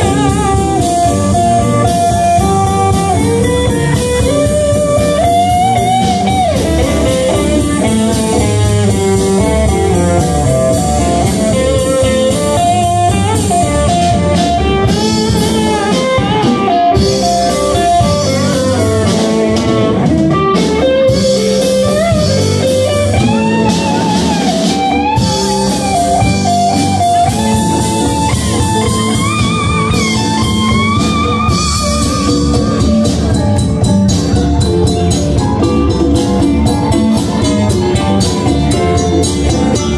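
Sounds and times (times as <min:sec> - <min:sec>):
bass guitar: 0:00.0 - 0:39.9
congas: 0:00.0 - 0:39.9
drum kit: 0:00.0 - 0:39.9
electric guitar lead: 0:00.0 - 0:39.9.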